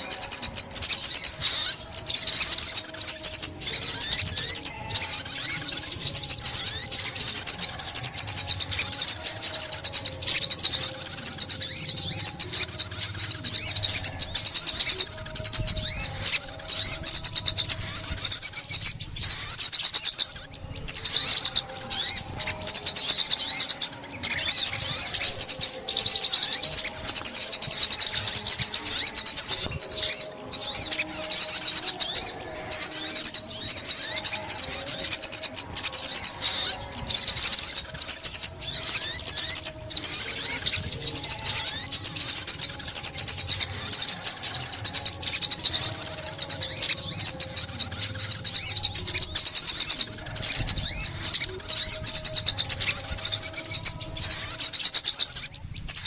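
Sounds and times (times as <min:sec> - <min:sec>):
songbird chirping and twittering: 0:00.0 - 0:56.0.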